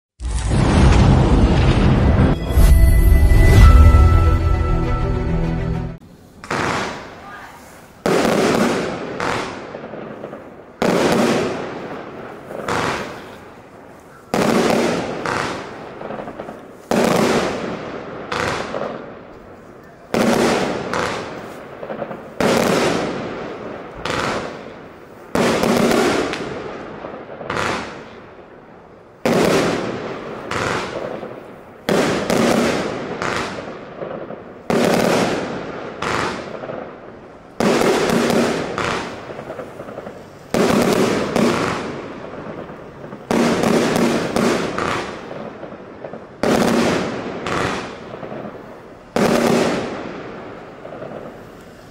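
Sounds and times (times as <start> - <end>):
firework bangs: 0.2 - 3.7, 6.0 - 51.9.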